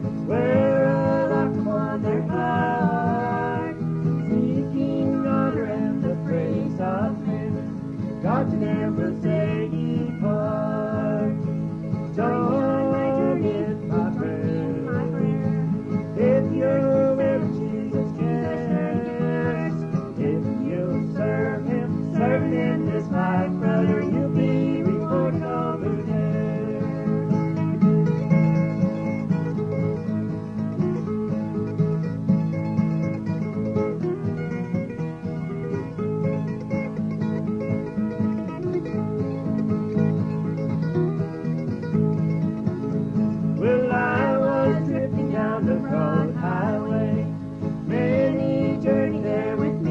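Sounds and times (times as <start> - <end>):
country tune with guitar: 0.0 - 49.9.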